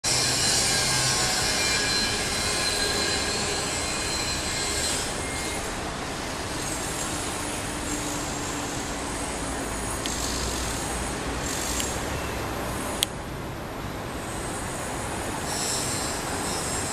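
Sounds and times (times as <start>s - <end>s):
high squealing tones: 0.1s - 12.4s, 14.5s - 16.9s
steady rumbling noise: 0.1s - 16.9s.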